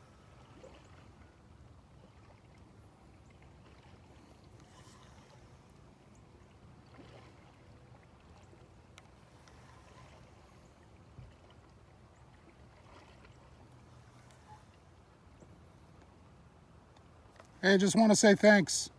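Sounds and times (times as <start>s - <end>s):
faint kayak paddling water: 0.0s - 18.9s.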